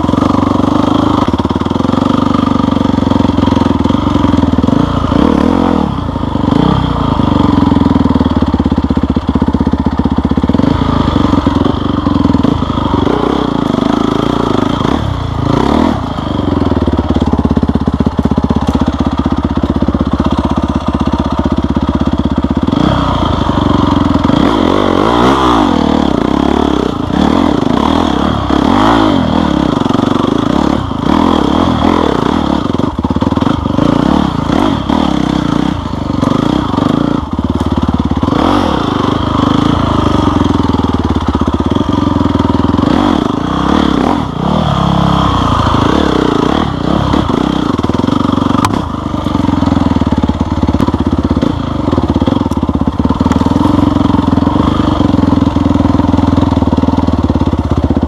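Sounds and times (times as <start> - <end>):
clatter: 0.0 - 58.0
off-road motorcycle engine revving: 0.0 - 58.0.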